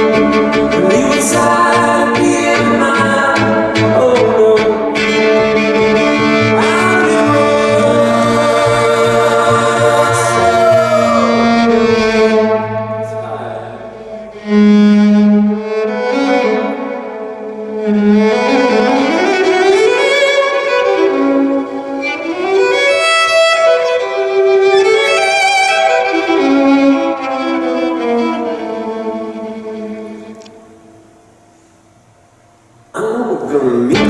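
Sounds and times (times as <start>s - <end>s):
violin bowed with slides: 0.0s - 30.7s.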